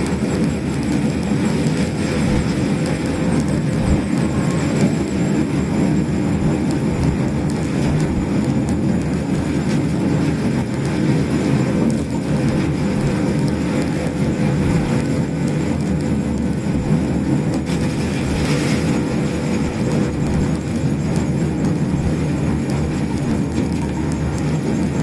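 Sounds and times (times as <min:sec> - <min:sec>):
electric car motor and road noise: 0:00.0 - 0:25.0.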